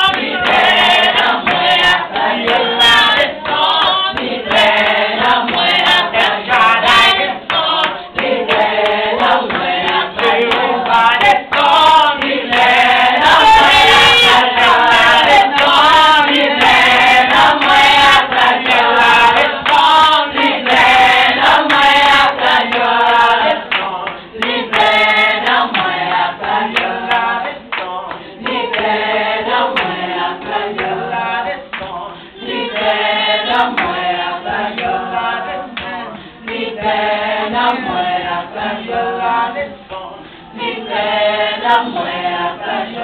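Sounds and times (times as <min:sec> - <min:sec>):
hand clapping: 0:00.0 - 0:37.0
women singing together: 0:00.0 - 0:43.0.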